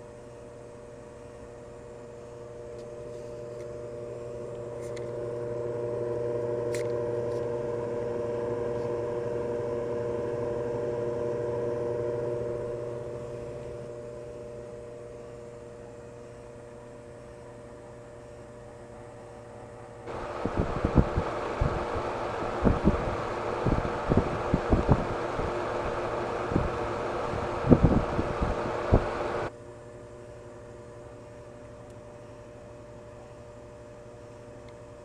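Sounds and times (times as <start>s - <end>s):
humidifier motor hum: 0.0s - 35.0s.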